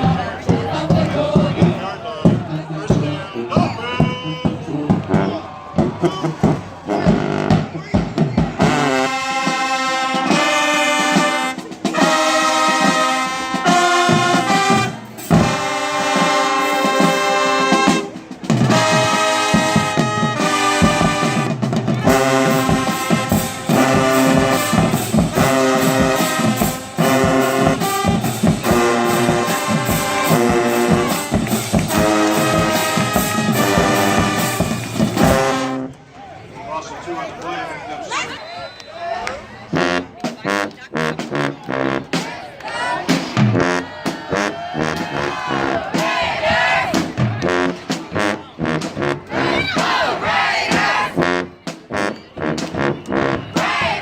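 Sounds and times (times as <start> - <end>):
steady drum beat: 0.0 - 35.7, 40.2 - 54.0
brass section playing chords: 0.1 - 7.8, 8.5 - 36.0, 39.7 - 42.2, 42.8 - 54.0.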